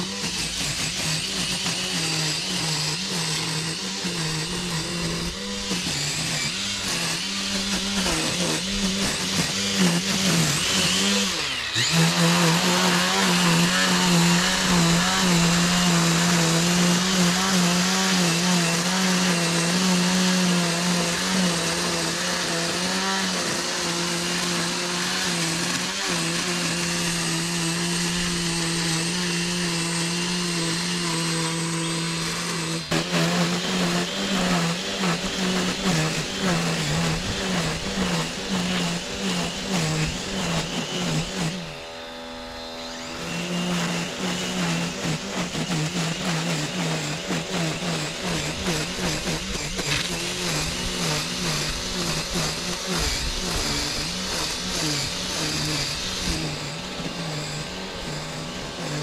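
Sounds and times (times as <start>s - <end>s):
string trimmer cutting grass: 0.0s - 59.0s.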